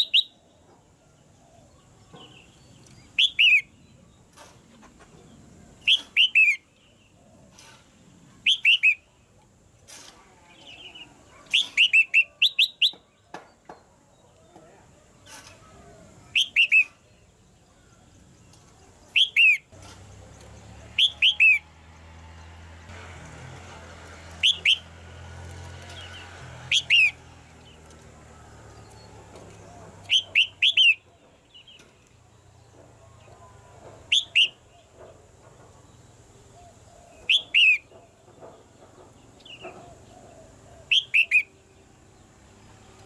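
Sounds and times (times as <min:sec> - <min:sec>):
bird chirping: 0:00.0 - 0:09.5, 0:10.4 - 0:14.8, 0:15.6 - 0:22.6, 0:24.2 - 0:24.9, 0:25.8 - 0:43.0.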